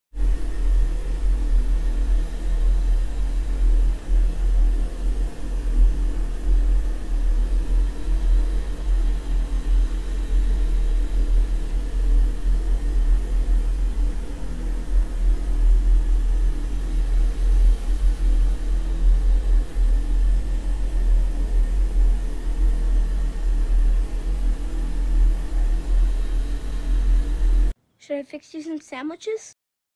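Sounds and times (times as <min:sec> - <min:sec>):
low fluttering rumble: 0:00.2 - 0:27.7
faint hum: 0:00.2 - 0:28.2.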